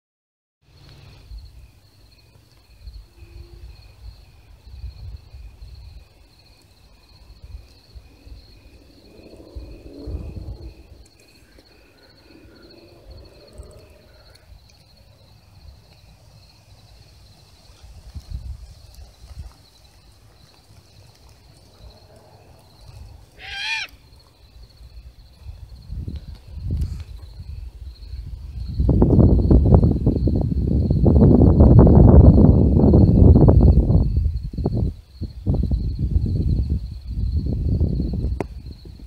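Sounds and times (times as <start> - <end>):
night insects chirping: 0.6 - 39.0
low rumble of wind on microphone: 0.7 - 39.0.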